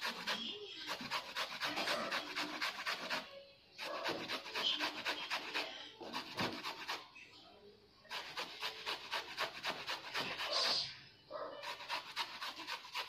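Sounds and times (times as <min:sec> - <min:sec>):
banana rasping on a metal grater: 0:00.0 - 0:07.1, 0:08.1 - 0:10.9, 0:11.6 - 0:13.0.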